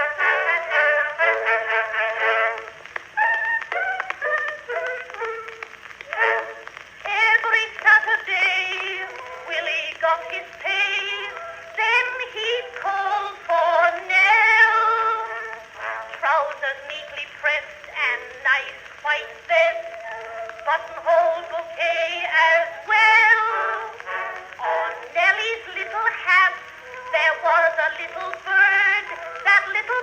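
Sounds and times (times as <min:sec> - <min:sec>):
tinny cylinder recording of a song: 0:00.0 - 0:30.0.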